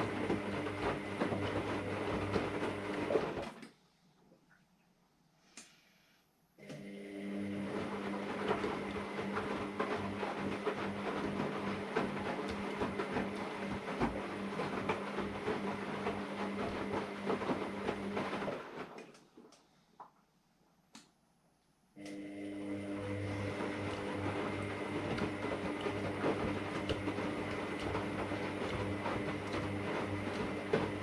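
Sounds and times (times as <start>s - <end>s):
washer-dryer humming and rattling: 0.0s - 3.7s, 6.6s - 19.6s, 22.0s - 31.0s.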